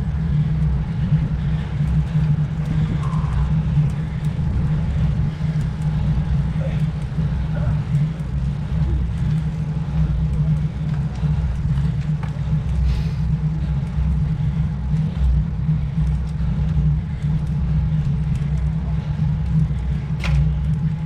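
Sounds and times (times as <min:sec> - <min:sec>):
wind buffeting microphone: 0:00.0 - 0:21.0
faint ticks: 0:00.1 - 0:21.0.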